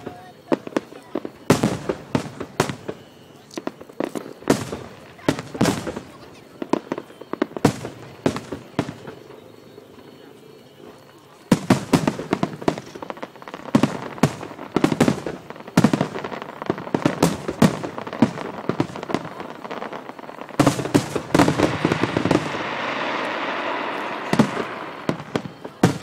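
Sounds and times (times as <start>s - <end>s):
fireworks bangs with echoes: 0.0s - 10.3s, 11.2s - 26.0s
fireworks hiss: 0.0s - 26.0s.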